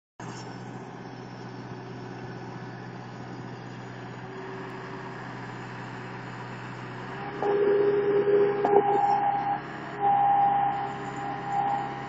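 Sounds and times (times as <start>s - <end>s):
loader engine running: 0.6s - 12.0s.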